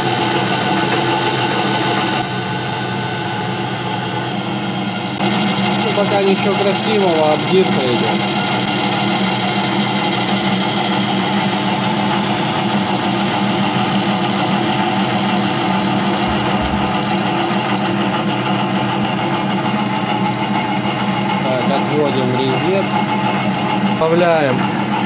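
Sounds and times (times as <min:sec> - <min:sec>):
lathe running: 0:00.0 - 0:02.3, 0:04.3 - 0:25.0.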